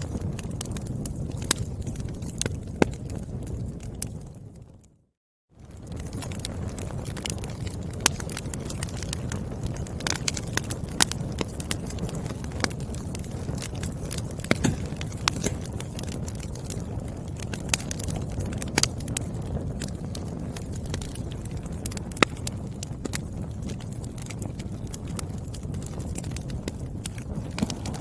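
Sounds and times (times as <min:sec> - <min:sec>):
firewood crackling and popping: 0:00.0 - 0:05.0, 0:05.6 - 0:28.0
fire low rumble: 0:00.0 - 0:28.0.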